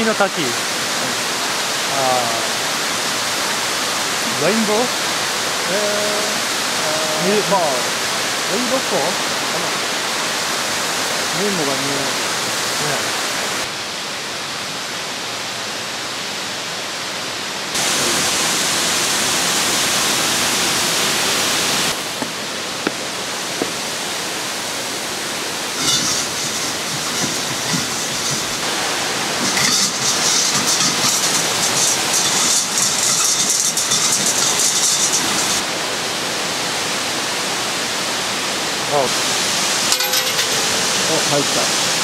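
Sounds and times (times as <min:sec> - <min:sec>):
waterfall roaring: 0:00.0 - 0:42.0.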